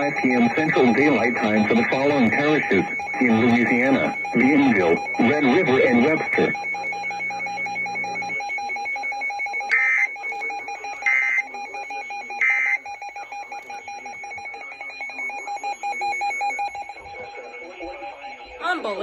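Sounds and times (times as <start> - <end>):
data tone bursts: 0.0 - 19.0
trilling alarm tone: 0.0 - 19.0.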